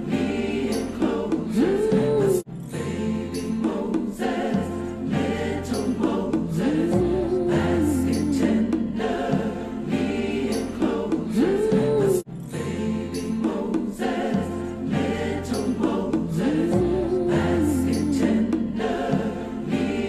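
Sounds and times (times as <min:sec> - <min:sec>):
choir singing slow melody: 0:00.0 - 0:20.0.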